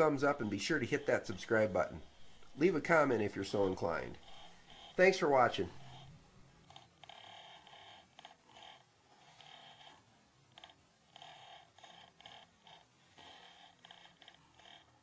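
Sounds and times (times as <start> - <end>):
faint tones: 0.0 - 15.0.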